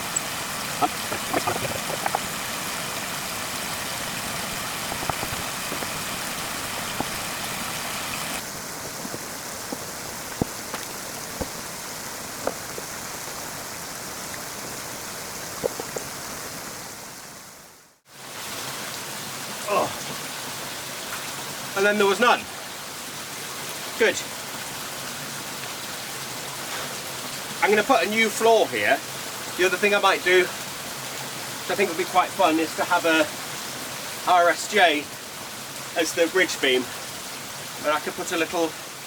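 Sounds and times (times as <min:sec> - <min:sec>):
running water hissing: 0:00.0 - 0:25.4, 0:26.2 - 0:39.0.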